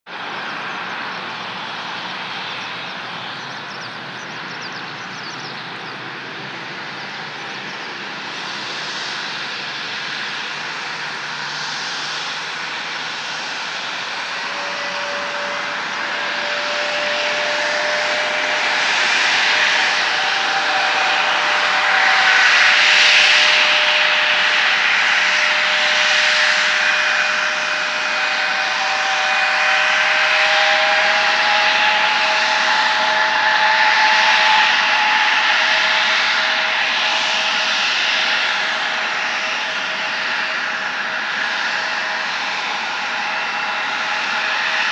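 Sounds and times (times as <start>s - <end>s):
jet engine spooling up: 0.1s - 44.9s
jet engines whining and hissing: 0.1s - 44.9s.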